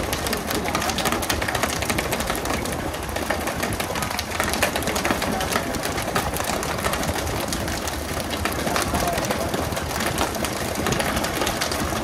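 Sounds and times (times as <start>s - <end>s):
rapid clatter of sharp clicks: 0.0s - 12.0s.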